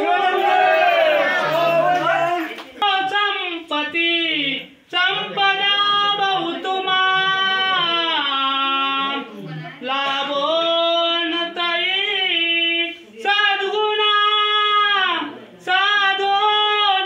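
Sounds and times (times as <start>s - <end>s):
men and children singing together: 0.0s - 3.1s, 4.9s - 17.0s.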